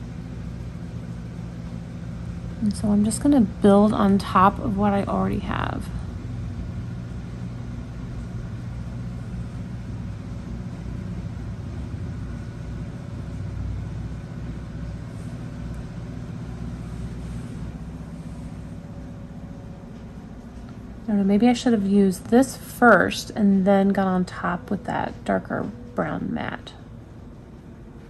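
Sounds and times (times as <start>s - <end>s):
faint hum: 0.0s - 28.0s
low background rumble: 0.0s - 28.0s.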